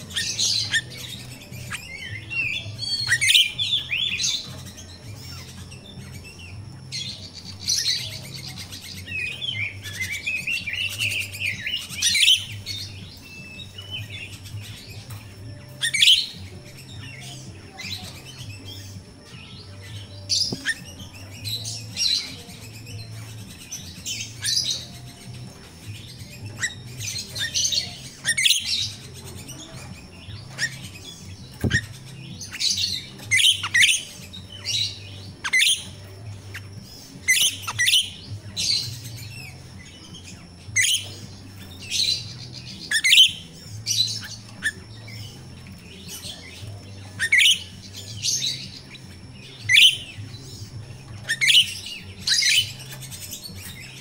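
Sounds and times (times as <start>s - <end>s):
bird shrill chirps: 0.0s - 54.0s.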